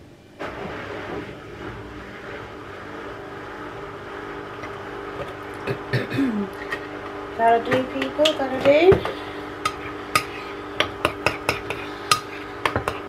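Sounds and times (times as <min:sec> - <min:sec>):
household appliance humming: 0:00.4 - 0:13.0.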